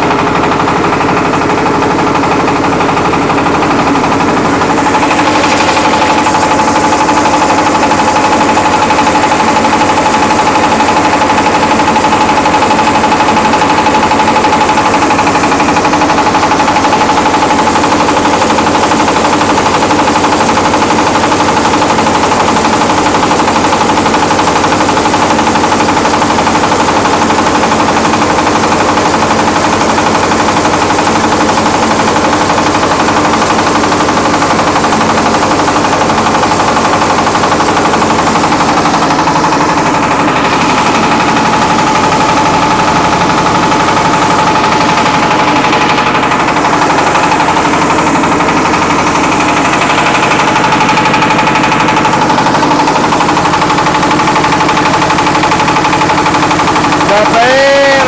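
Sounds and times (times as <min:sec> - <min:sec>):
machine whine: 0:00.0 - 0:58.0
rice milling machine rattling: 0:00.0 - 0:58.0.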